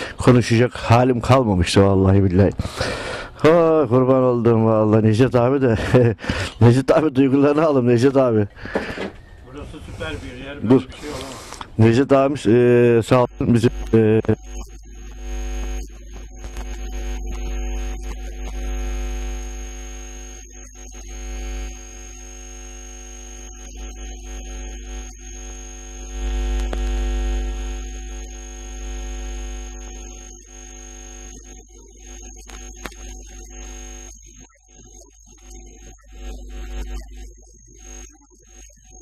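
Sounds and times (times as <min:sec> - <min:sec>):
electrical hum and buzz: 0:00.0 - 0:39.0
thin high whine: 0:02.5 - 0:39.0.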